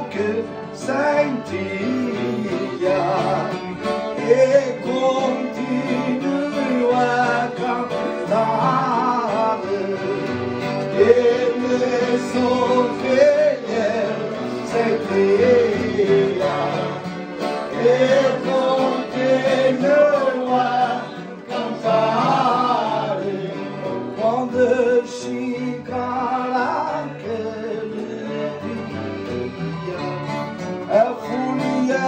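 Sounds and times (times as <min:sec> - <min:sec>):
men singing folk song: 0:00.0 - 0:32.0
strummed acoustic guitar: 0:00.0 - 0:32.0.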